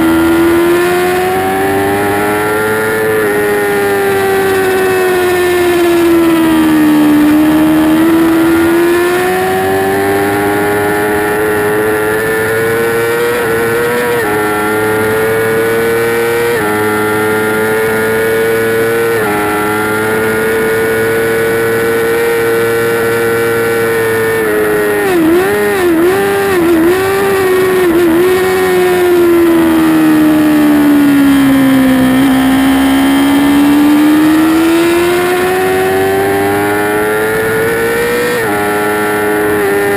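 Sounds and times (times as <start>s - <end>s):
sport bike engine revving: 0.0s - 39.9s.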